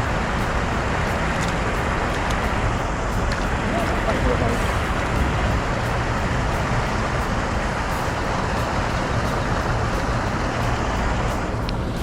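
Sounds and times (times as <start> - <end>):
broad outdoor hiss: 0.0 - 12.0
fluttering low rumble: 0.0 - 12.0.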